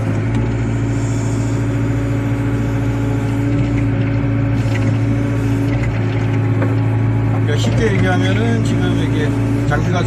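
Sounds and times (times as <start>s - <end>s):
excavator diesel engine humming: 0.0s - 10.0s.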